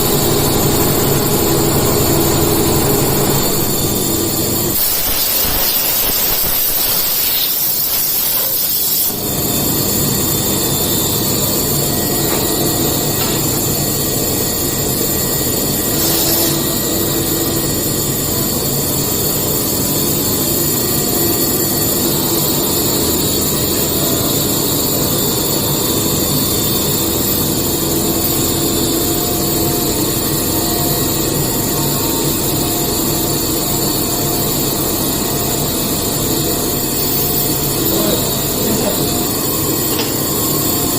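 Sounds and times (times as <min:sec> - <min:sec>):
machine cutting metal: 0:00.0 - 0:40.9.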